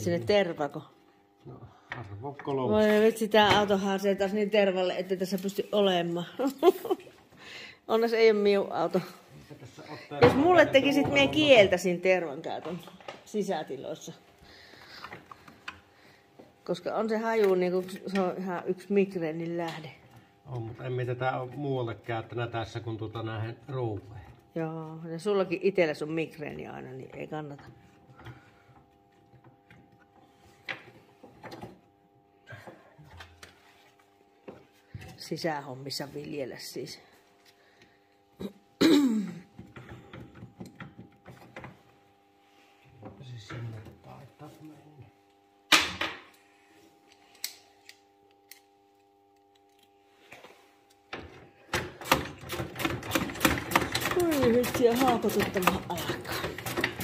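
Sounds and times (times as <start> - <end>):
faint steady hum: 0.0 - 52.3.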